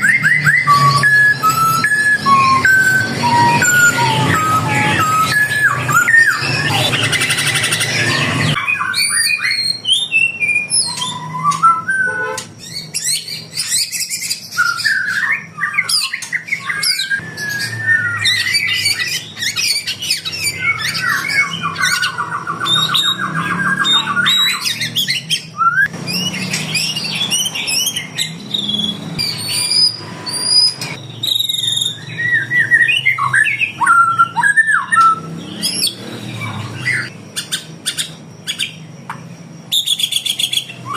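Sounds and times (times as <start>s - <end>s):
fast even bird trill: 0.0s - 38.8s
caged songbirds chirping and singing: 0.0s - 40.9s.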